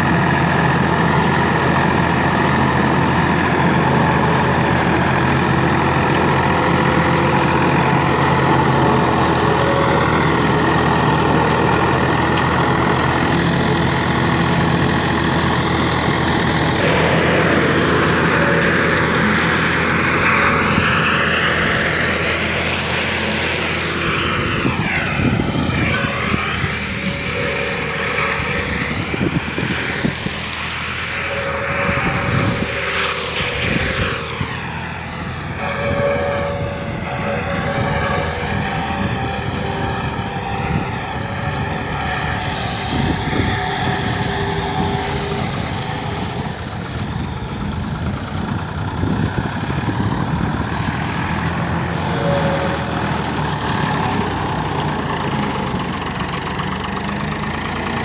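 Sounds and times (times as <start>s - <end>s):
mulcher shredding straw: 0.0s - 58.0s
tractor diesel engine under load: 0.0s - 58.0s.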